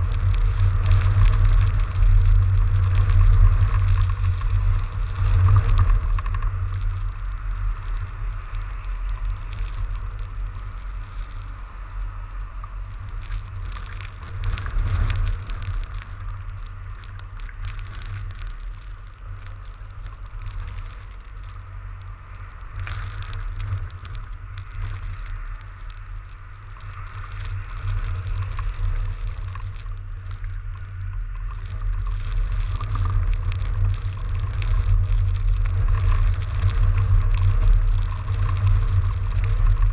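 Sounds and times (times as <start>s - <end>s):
faint thin high whine: 0.0s - 39.9s
wind rumbling on microphone: 0.0s - 39.9s.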